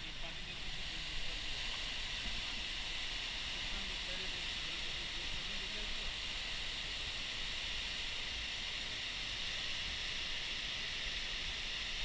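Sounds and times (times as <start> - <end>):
waterfall rushing into pool: 0.3 - 12.0.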